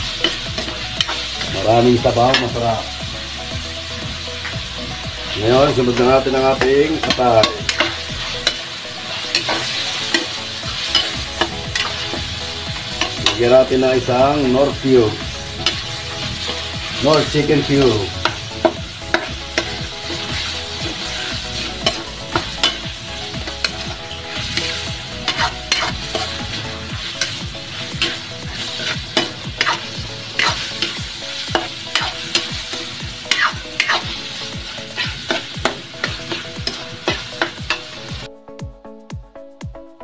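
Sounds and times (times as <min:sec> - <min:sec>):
meat sizzling in a wok: 0:00.0 - 0:38.3
metal spatula scraping a pan: 0:05.3 - 0:38.0.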